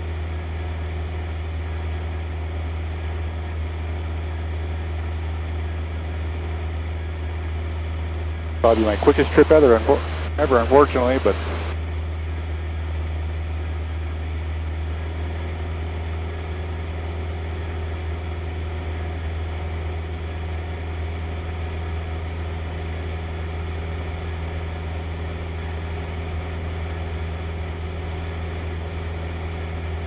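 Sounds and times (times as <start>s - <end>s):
airplane engine and propeller droning: 0.0s - 30.0s.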